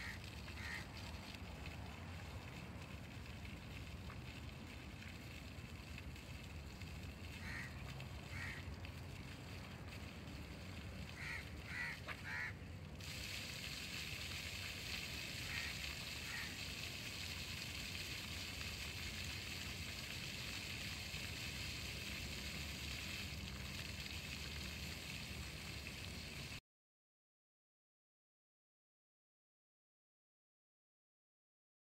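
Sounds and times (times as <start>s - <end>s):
fountain jets splattering on tiles: 0.0s - 26.6s.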